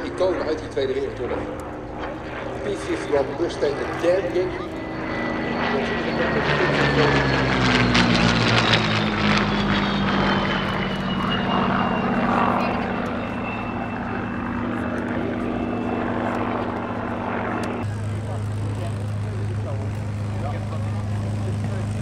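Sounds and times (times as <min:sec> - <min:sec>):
propeller planes flying overhead: 0:00.0 - 0:22.0.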